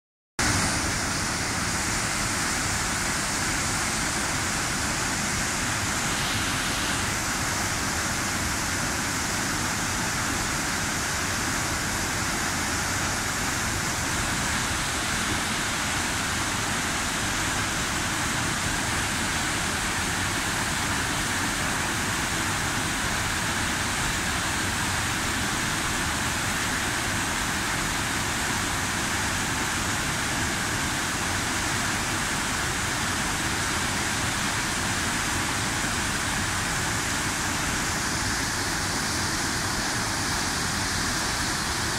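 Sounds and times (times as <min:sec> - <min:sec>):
waterfall rushing: 0:00.4 - 0:41.9.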